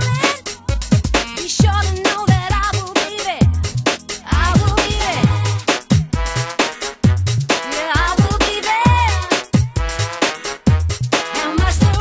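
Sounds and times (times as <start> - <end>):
bass line: 0.0 - 12.0.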